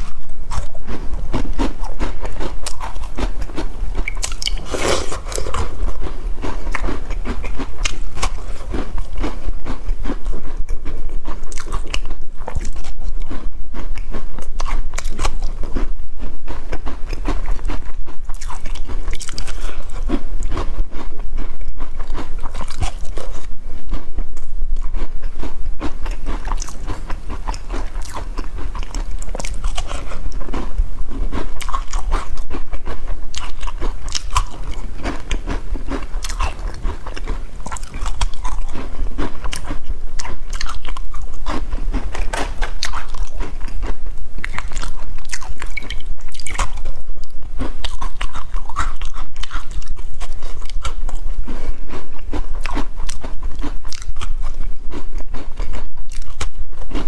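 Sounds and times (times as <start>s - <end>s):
crunching and chewing biscuits: 0.0s - 57.0s.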